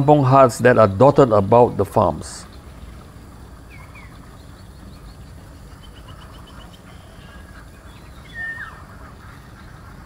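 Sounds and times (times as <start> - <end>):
birds calling: 0.0 - 10.0
low steady background noise: 0.0 - 10.0.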